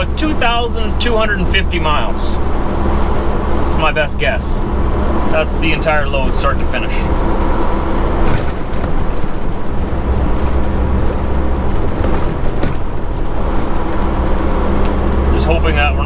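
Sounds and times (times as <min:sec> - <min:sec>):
diesel engine and road drone: 0:00.0 - 0:16.0.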